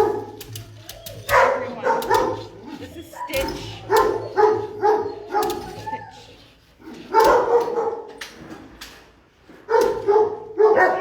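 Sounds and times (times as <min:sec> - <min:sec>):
dogs barking: 0:00.0 - 0:08.3, 0:09.6 - 0:11.0.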